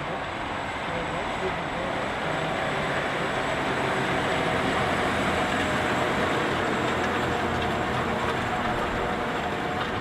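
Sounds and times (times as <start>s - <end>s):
tractor diesel engine rumbling: 0.0s - 10.0s.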